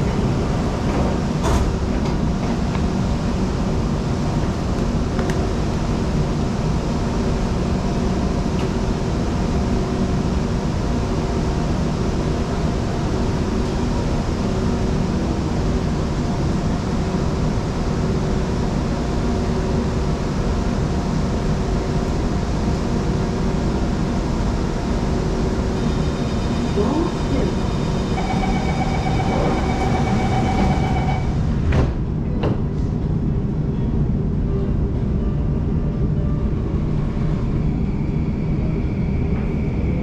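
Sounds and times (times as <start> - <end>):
train air conditioning hum: 0.0 - 40.0.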